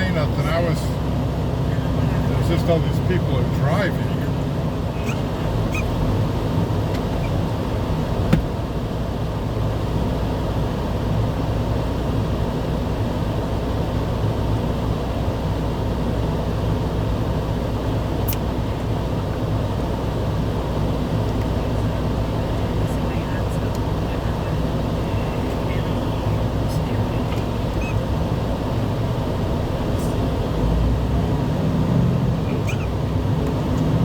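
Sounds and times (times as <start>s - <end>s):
car road noise rumble: 0.0s - 34.0s.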